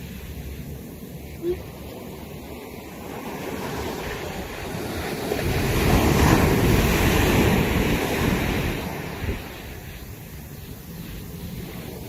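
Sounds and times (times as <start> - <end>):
ocean wave breaking: 0.0 - 12.0
wind on microphone: 0.0 - 12.0.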